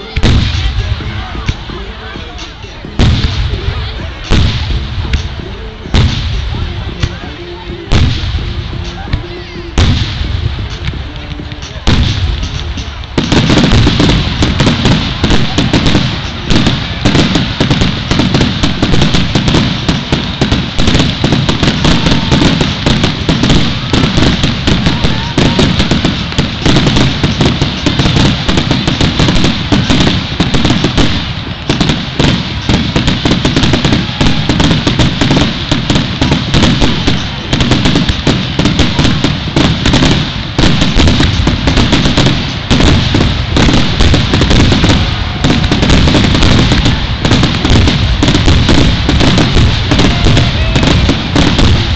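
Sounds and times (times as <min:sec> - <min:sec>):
fireworks bursting and crackling: 0:00.0 - 0:51.9.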